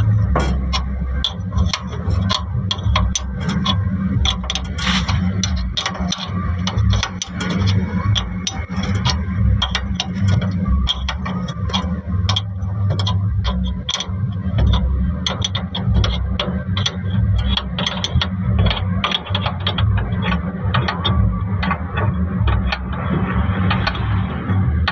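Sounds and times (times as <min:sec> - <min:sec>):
engine running low hum: 0:00.0 - 0:24.9
metallic tool clicks on wheel nuts: 0:00.0 - 0:24.9.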